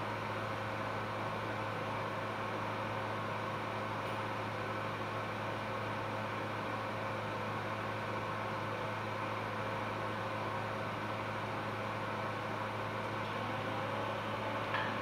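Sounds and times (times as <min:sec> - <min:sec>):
fan-like hiss: 0:00.0 - 0:15.0.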